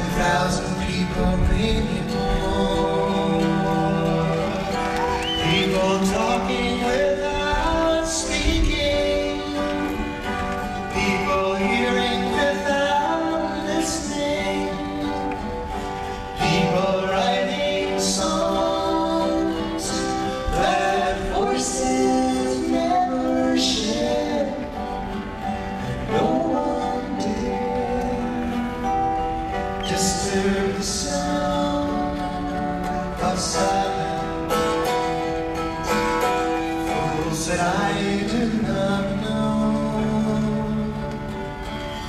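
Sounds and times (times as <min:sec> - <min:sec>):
acoustic guitar: 0:00.0 - 0:42.0
men singing in harmony: 0:00.0 - 0:42.0.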